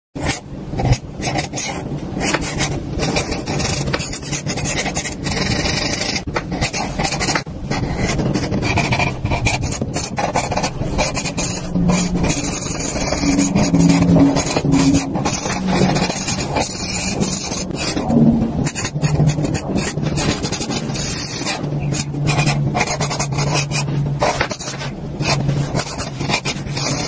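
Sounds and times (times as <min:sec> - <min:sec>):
ballpoint pen scratching paper: 0:00.2 - 0:27.0.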